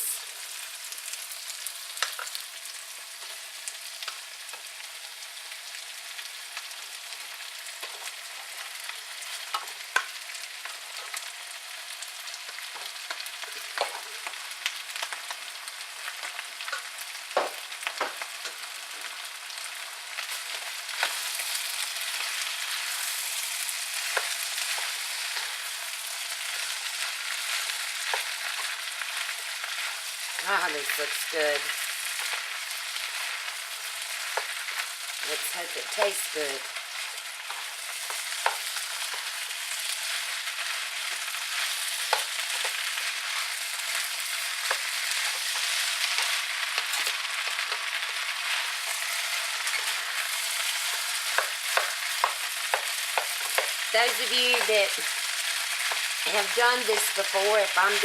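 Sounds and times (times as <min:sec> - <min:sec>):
rice sizzling in a frying pan: 0:00.0 - 0:58.0.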